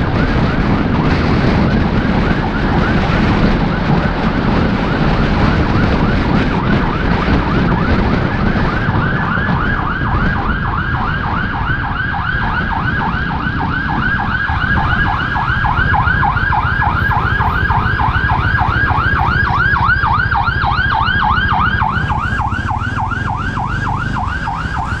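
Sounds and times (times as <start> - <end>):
ambulance siren yelping: 0.0 - 25.0
road and engine rumble: 0.0 - 25.0.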